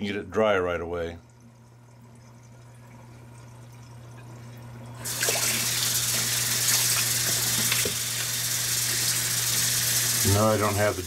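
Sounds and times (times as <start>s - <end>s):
faucet water running and splashing: 1.3s - 11.0s.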